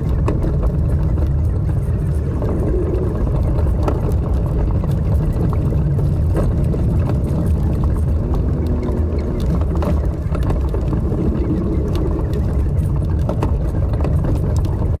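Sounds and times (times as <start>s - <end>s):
knocks and rattles: 0.0s - 15.0s
pickup engine rumble inside cab: 0.0s - 15.0s.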